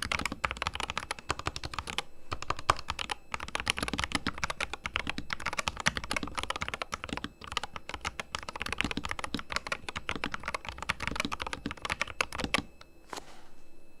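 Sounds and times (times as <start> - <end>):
fast typing on mechanical keyboard: 0.0 - 12.7.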